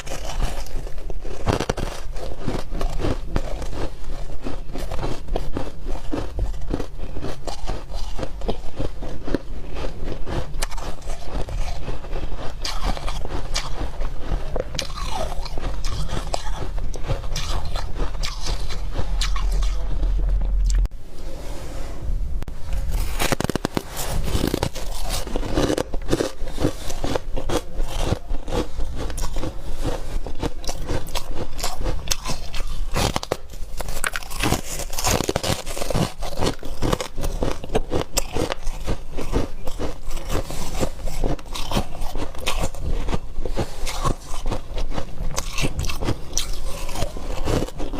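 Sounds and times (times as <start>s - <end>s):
chewing ice crunching: 0.0s - 20.9s, 23.2s - 47.9s.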